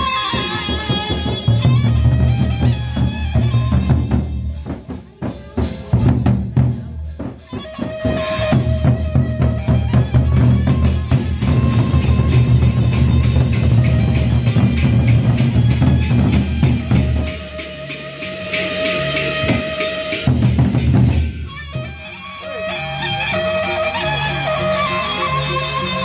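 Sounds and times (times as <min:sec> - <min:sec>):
barrel drums beaten in rhythm: 0:00.0 - 0:21.9.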